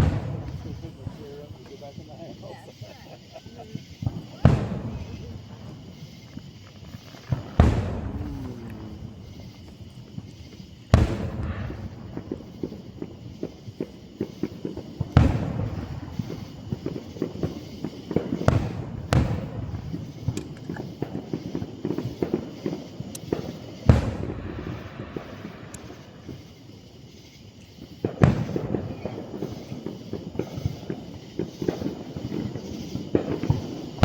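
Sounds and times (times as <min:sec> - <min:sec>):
firework pops and crackles: 0:00.0 - 0:34.0
firework shell bursts booming: 0:00.0 - 0:34.0.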